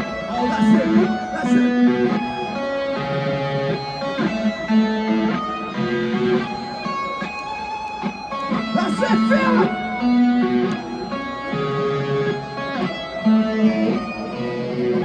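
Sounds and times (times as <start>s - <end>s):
electric guitar sustained notes: 0.0s - 15.0s
live rock band: 0.0s - 15.0s.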